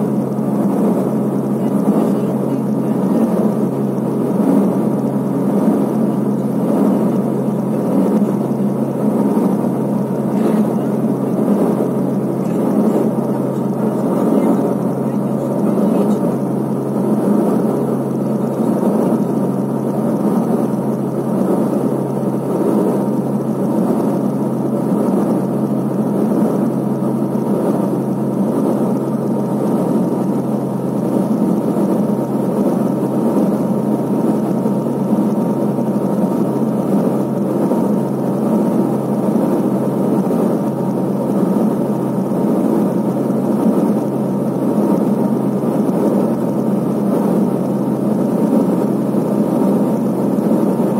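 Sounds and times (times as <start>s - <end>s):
faint steady whine: 0.0s - 50.9s
propeller hum: 0.0s - 50.9s.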